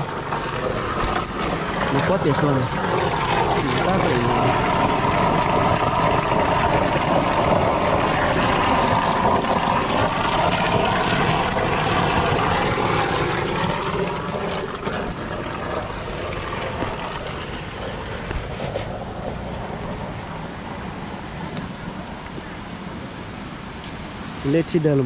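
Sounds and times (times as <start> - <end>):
motor engine running: 0.0 - 22.5.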